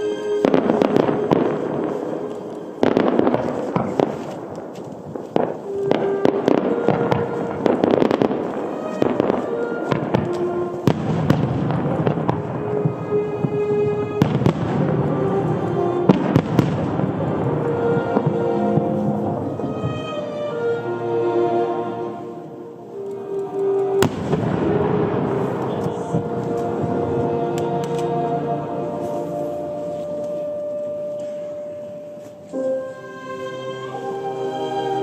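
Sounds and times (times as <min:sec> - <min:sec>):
fireworks bursting: 0:00.0 - 0:20.7, 0:22.9 - 0:32.6
music: 0:00.0 - 0:35.0.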